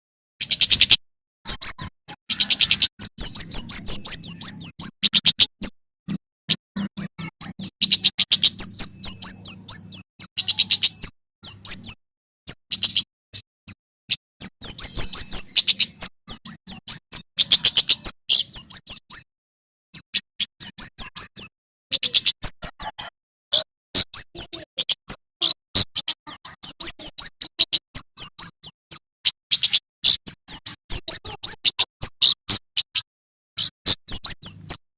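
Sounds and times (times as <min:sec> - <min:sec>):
bird calling in sharp chips: 0:00.4 - 0:19.3, 0:20.0 - 0:34.9.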